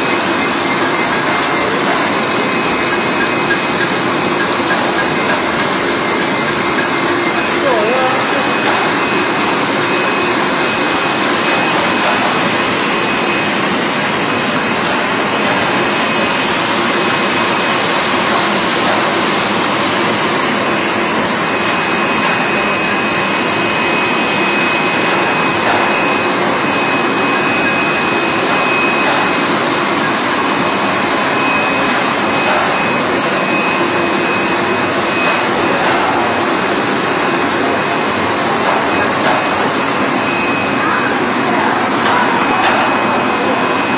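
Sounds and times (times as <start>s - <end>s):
machine hiss with high whine: 0.0s - 43.9s.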